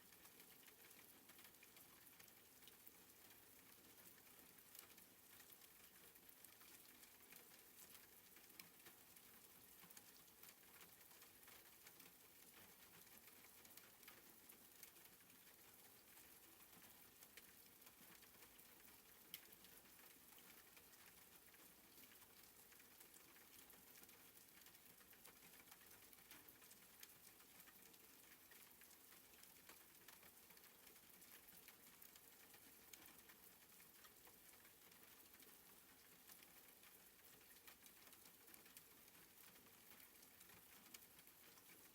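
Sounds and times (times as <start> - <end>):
soft rain pattering: 0.0 - 41.9.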